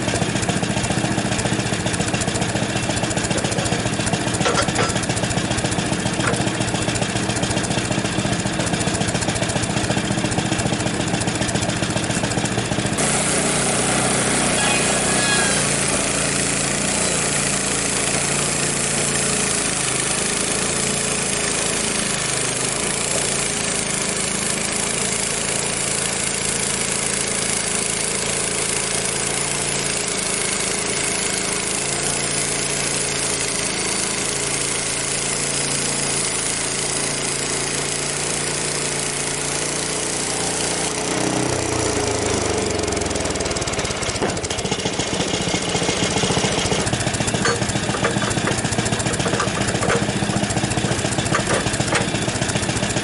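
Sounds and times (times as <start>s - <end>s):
band saw cutting log: 0.0s - 53.0s
sawmill engine running: 0.0s - 53.0s.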